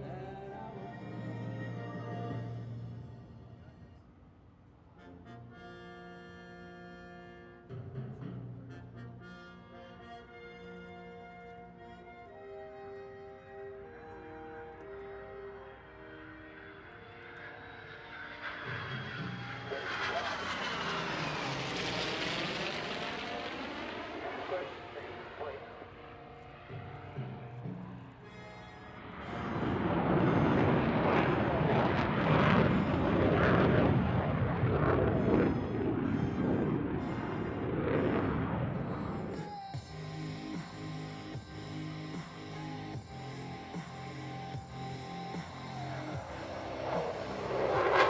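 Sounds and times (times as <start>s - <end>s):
aircraft engines roaring: 0.0s - 48.0s.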